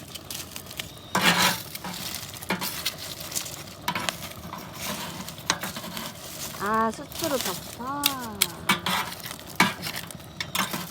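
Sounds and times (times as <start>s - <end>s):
foil scraping in embers: 0.0s - 10.9s
wood fire crackling: 0.0s - 10.9s.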